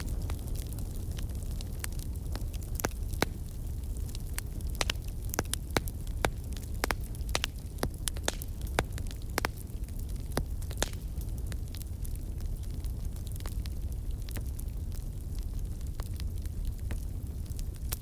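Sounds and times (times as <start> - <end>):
burning wood crackling: 0.0 - 18.0
low fire rumble: 0.0 - 18.0.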